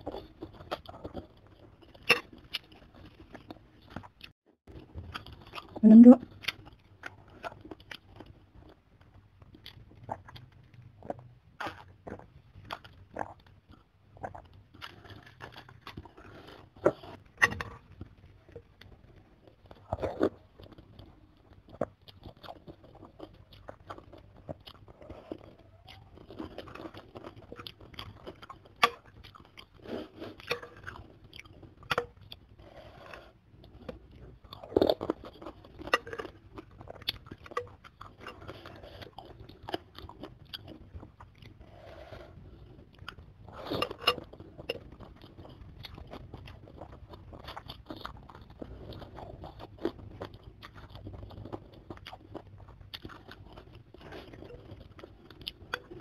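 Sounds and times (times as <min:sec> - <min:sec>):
chewing and slurping noodles: 0:00.0 - 0:56.0.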